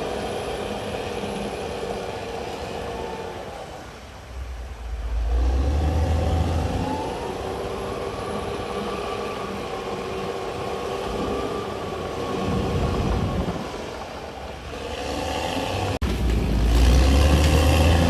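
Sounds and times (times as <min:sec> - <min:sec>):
bulldozer diesel engine rumbling: 0:00.0 - 0:18.0.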